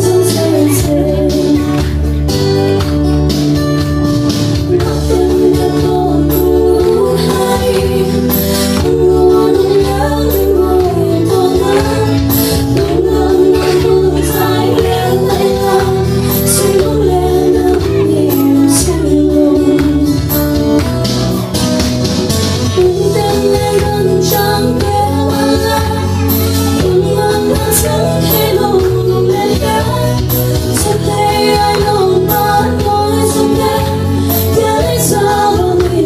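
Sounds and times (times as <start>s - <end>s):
woman singing: 0.0s - 2.7s, 4.5s - 20.9s, 22.6s - 36.0s
backing track with chords and bass: 0.0s - 36.0s.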